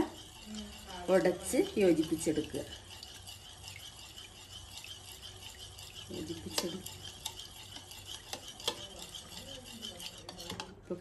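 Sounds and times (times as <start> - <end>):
spoon scraping a plate: 0.0 - 11.0.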